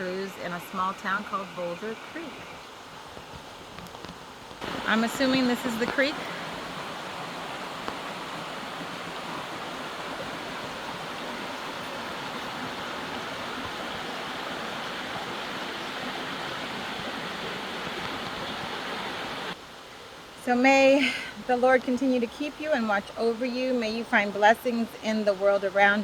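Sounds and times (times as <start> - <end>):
creek babbling over rocks: 0.0 - 26.0.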